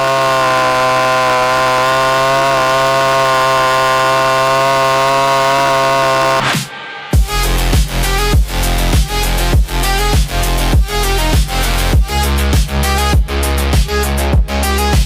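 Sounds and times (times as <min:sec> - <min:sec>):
chainsaw ripping a log: 0:00.0 - 0:06.6, 0:07.2 - 0:13.2.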